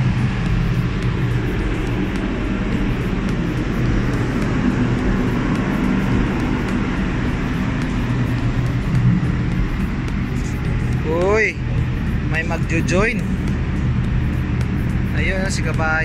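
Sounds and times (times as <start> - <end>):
ship machinery drone: 0.0 - 16.0.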